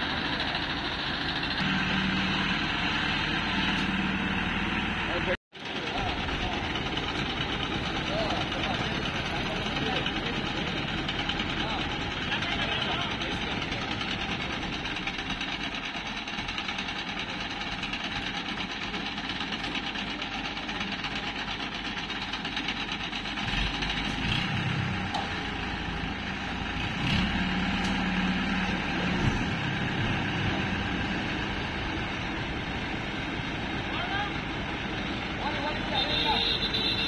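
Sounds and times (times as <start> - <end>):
crane diesel engine running: 0.0 - 37.0.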